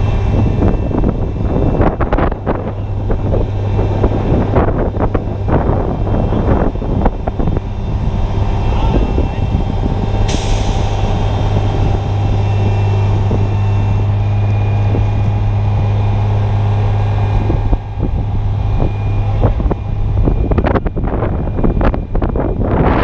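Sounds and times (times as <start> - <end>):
engine running steadily: 0.0 - 23.0
wind buffeting microphone: 0.0 - 23.0.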